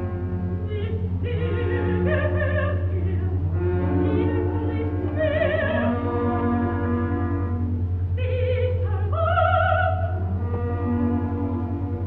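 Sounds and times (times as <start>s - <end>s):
steady low hum: 0.0s - 12.0s
soprano singing opera: 0.5s - 7.6s, 8.2s - 12.0s.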